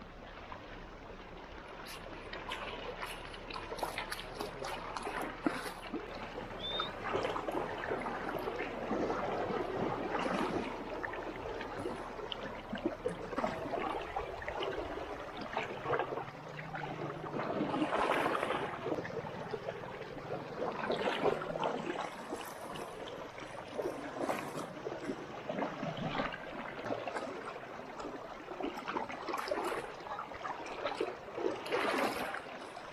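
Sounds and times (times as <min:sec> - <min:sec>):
river water over rocks: 0:00.0 - 0:32.9.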